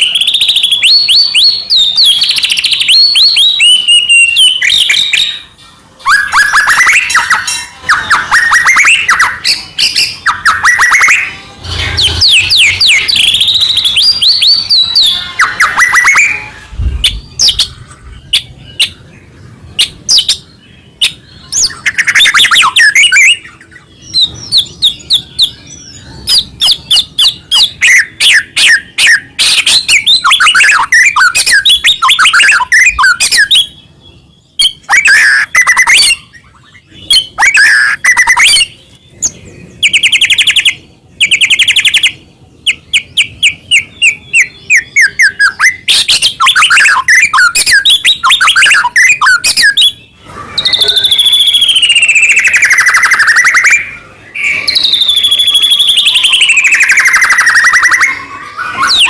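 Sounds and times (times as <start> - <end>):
songbird whistling and trilling: 0.0 - 19.1, 19.8 - 59.0.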